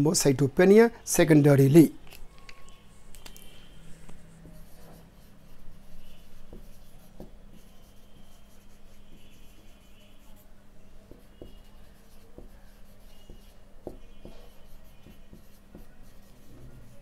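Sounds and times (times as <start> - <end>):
marker squeaks: 1.5 - 10.5, 11.1 - 17.0
marker scratching on whiteboard: 2.9 - 17.0.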